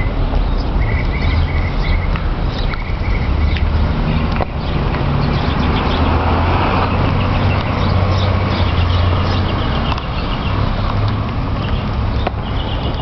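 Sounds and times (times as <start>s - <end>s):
street noise rumble: 0.0s - 13.0s.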